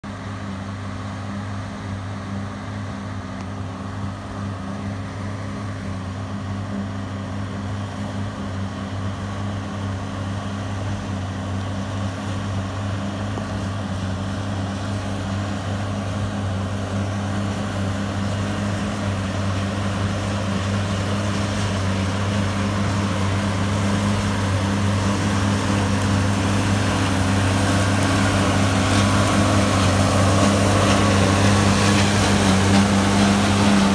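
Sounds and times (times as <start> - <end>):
tractor and baler humming: 0.0 - 33.9.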